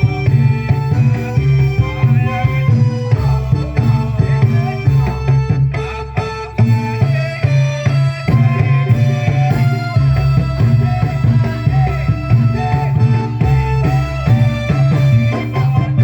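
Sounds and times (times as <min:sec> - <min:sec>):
band music: 0:00.0 - 0:16.0
drums keeping steady beat: 0:00.0 - 0:16.0.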